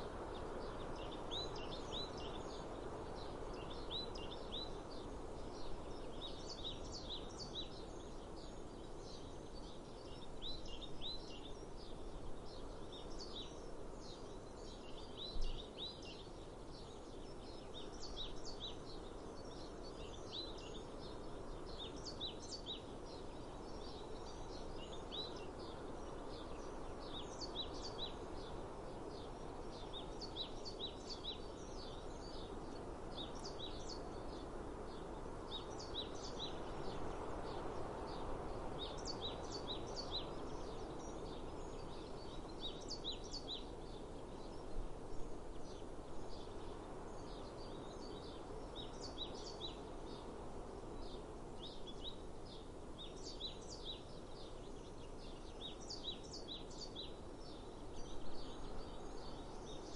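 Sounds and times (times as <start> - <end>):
outdoor background noise: 0.0 - 59.9
songbirds chirping: 0.0 - 59.9.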